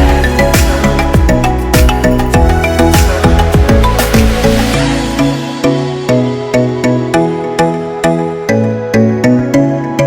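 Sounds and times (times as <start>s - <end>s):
electronic music with sharp notes: 0.0s - 10.0s.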